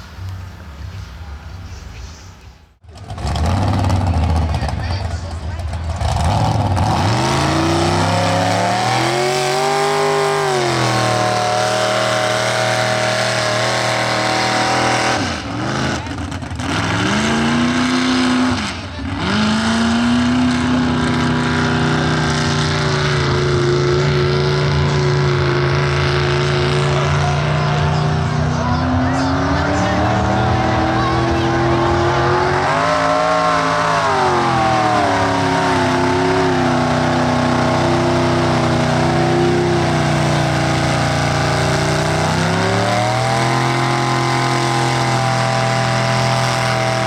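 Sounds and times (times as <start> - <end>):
truck engine revving: 2.7 - 47.0.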